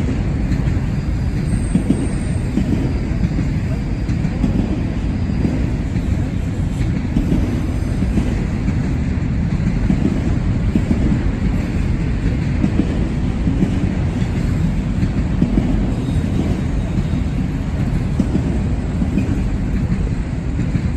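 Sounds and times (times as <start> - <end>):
train cars rumbling on track: 0.0 - 20.9.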